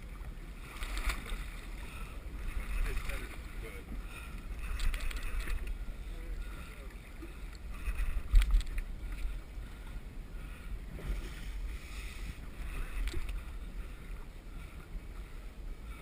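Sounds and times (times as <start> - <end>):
water sloshing against boat: 0.0 - 16.0
wind rumble on microphone: 0.0 - 16.0.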